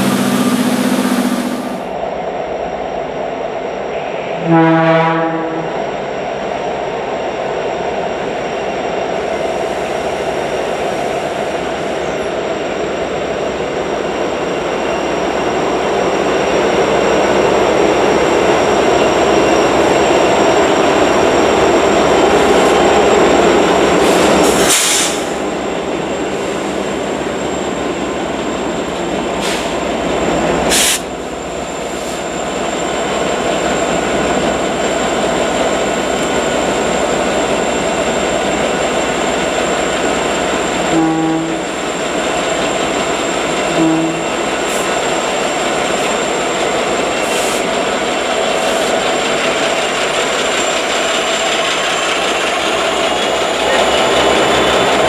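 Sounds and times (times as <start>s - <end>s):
diesel locomotive engines: 0.0s - 55.0s.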